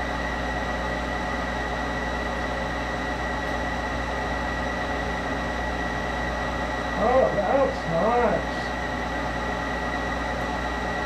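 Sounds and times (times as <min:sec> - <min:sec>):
lathe humming with high whine: 0:00.0 - 0:11.0.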